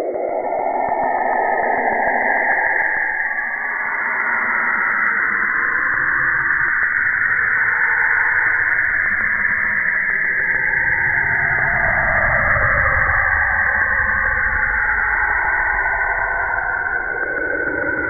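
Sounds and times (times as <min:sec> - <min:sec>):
eerie hissing whoosh: 0:00.0 - 0:18.0.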